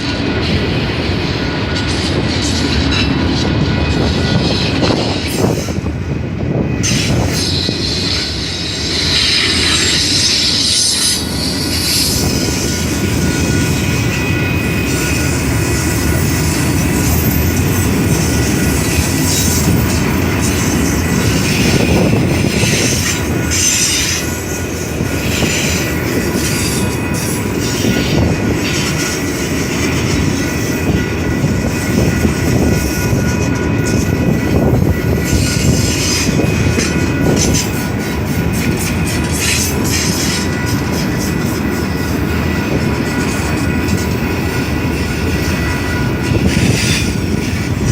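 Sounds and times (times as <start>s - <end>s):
train rumbling past: 0.0s - 47.9s
wheel squeal: 6.8s - 47.9s.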